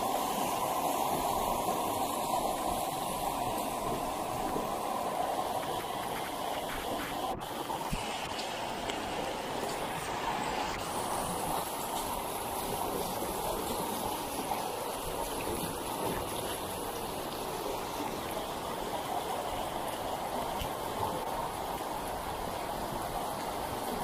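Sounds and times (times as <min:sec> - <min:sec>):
runoff water rushing down gutter: 0:00.0 - 0:24.0.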